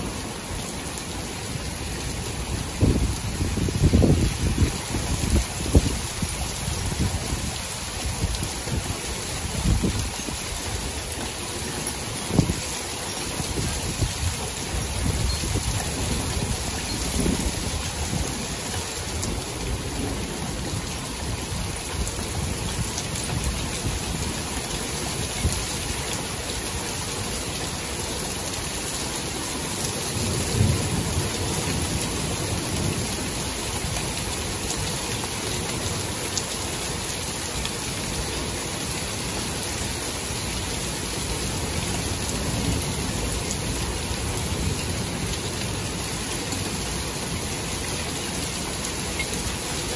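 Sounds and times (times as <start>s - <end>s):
steady rain: 0.0s - 49.9s.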